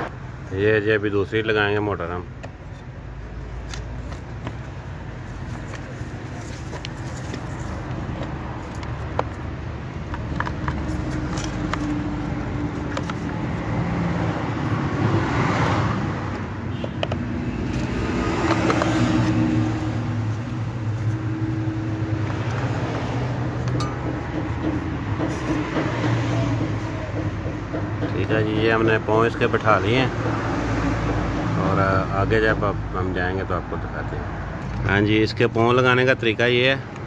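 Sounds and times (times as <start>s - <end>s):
road traffic hum: 0.0s - 37.0s
vehicles passing: 0.0s - 37.0s.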